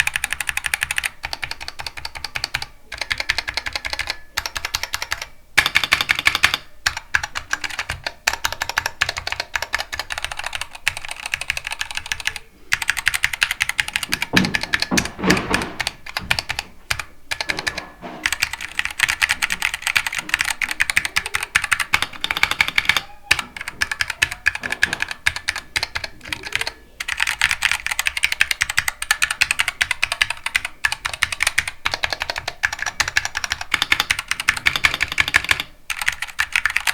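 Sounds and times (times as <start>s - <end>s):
typing on mechanical keyboard: 0.0s - 36.9s.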